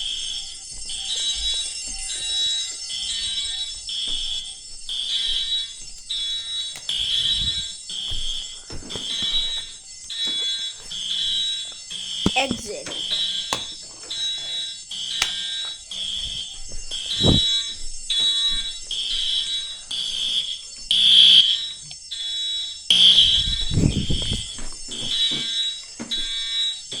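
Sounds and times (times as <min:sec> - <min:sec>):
fire alarm beeping: 0:00.0 - 0:27.0.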